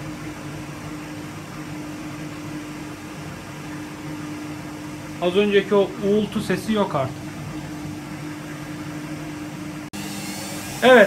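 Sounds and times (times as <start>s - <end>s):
washing machine motor spinning: 0.0s - 11.0s.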